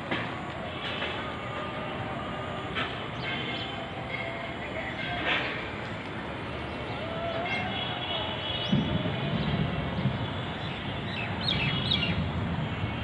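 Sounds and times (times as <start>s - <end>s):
outdoor rumble: 0.0s - 13.0s.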